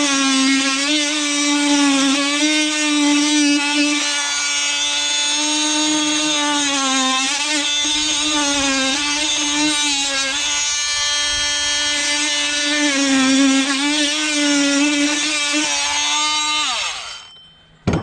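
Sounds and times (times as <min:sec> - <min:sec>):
multi-tool cutting plasterboard: 0:00.0 - 0:17.4.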